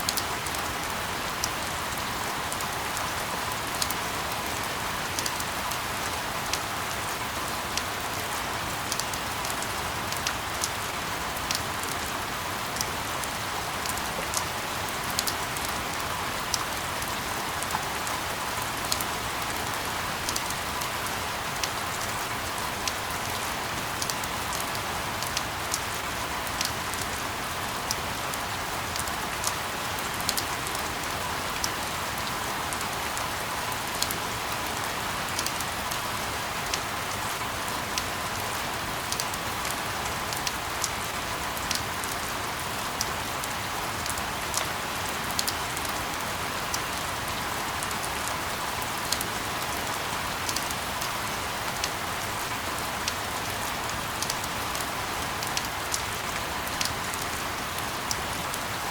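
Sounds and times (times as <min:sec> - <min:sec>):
rain hiss with drop ticks: 0:00.0 - 0:58.9.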